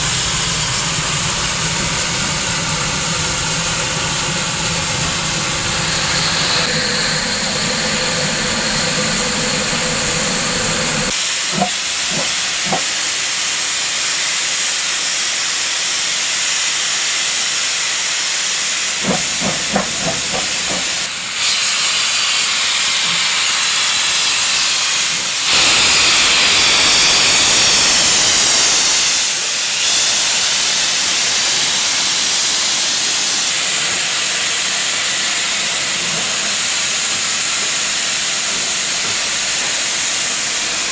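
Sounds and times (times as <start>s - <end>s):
loud hiss of steam: 0.0s - 40.9s.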